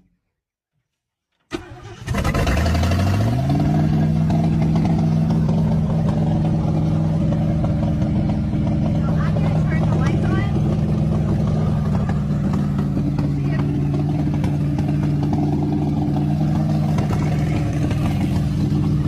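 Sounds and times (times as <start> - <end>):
car engine starting and idling: 1.4 - 19.0.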